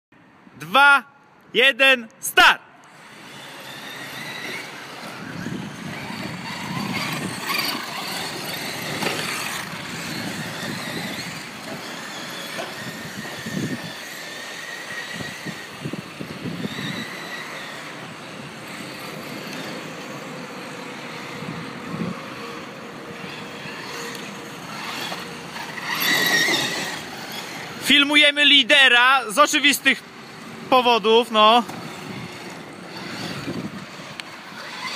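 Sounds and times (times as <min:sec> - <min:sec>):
electric motors whining: 0:02.8 - 0:34.9.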